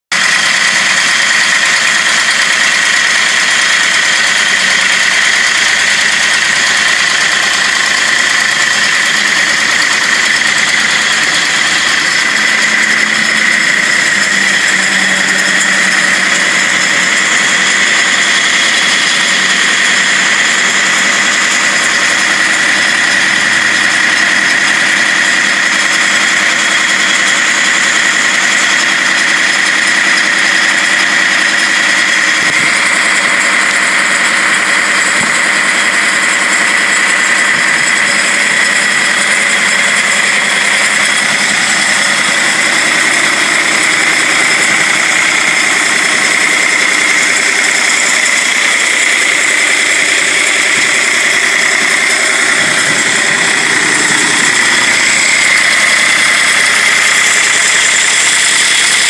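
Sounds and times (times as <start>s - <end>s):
drill truck engine running: 0.0s - 59.0s
high whine: 0.1s - 59.0s.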